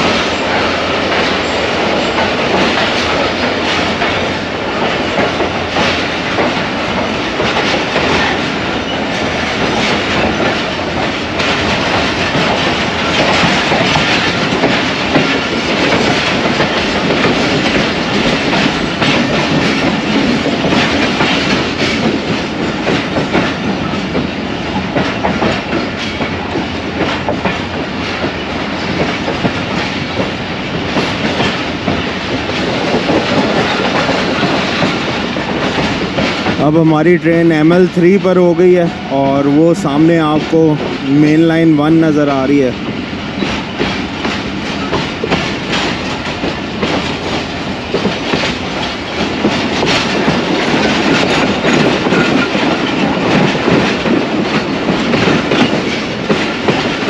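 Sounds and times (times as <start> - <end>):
train wheels clattering over joints: 0.0 - 57.0.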